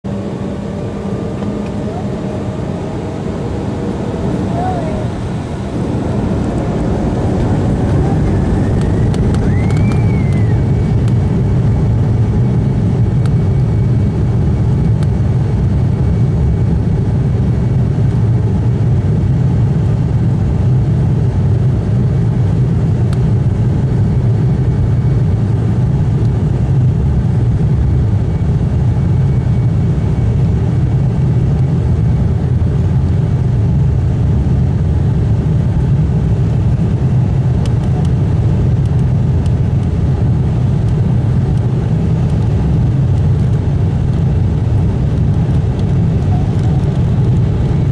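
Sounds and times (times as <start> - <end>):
engine and runway rumble: 0.0 - 47.9
jet engine whine: 0.0 - 47.9.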